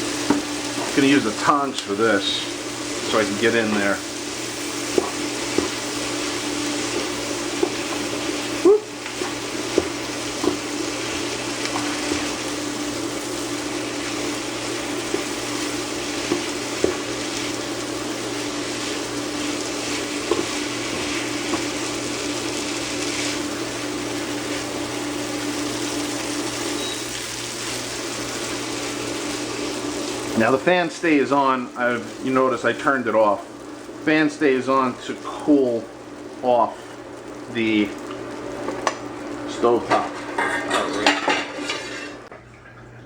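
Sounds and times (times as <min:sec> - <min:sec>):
cooktop hum: 0:00.0 - 0:43.0
cooling fan whooshing: 0:00.0 - 0:43.0.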